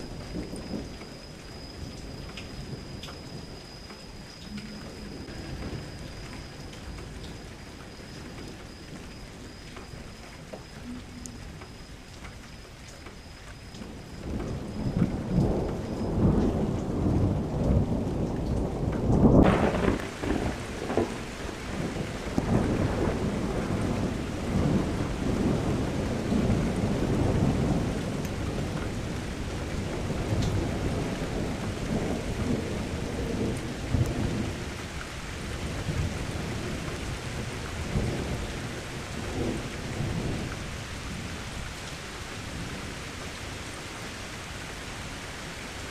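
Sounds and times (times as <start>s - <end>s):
thunder rumbling: 0.0s - 12.8s, 13.6s - 45.9s
heavy rain hiss: 0.0s - 45.9s.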